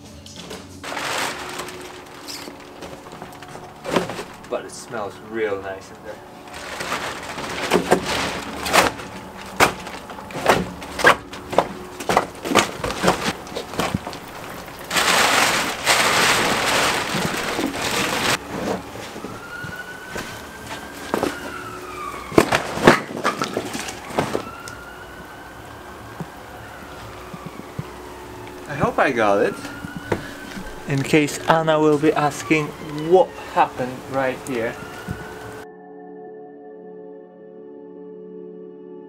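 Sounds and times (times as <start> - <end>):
tarpaulin rustling: 0.0 - 35.6
logs knocking and clunking: 0.4 - 5.0, 6.2 - 35.6
faint siren wailing: 1.0 - 39.0.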